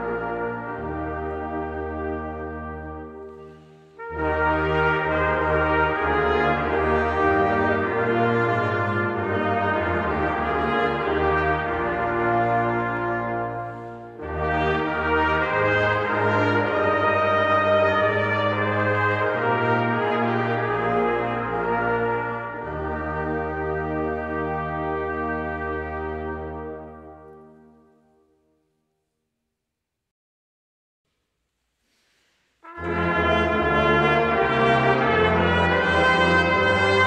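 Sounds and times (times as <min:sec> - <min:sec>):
brass choir playing held chords: 0:00.0 - 0:28.2, 0:32.6 - 0:37.0.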